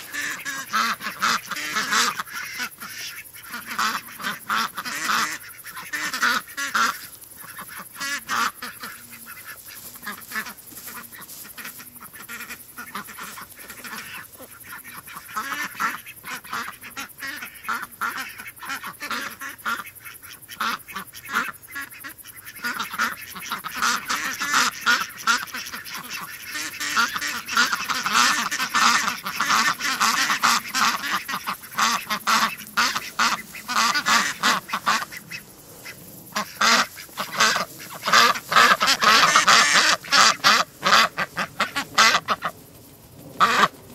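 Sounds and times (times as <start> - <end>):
ducks quacking: 0.0 - 42.6, 43.2 - 43.9.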